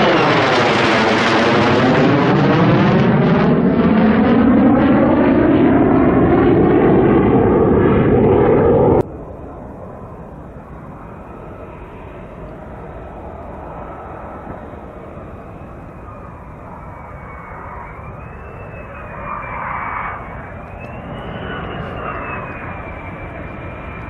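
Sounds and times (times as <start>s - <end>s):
distant rumble: 0.0s - 24.0s
fighter jet passing: 0.0s - 24.0s.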